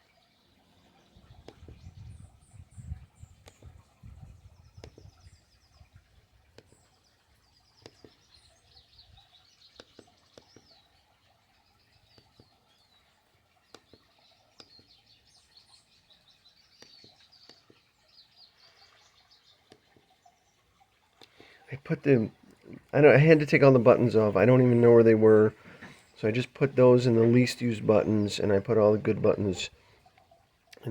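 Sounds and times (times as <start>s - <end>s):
faint birdsong: 0.0s - 30.9s.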